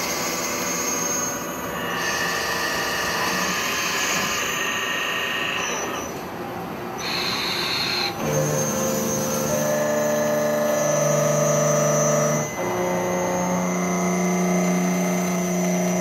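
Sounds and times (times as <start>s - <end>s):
machine tool cutting metal whine: 0.0s - 6.3s, 7.0s - 16.0s.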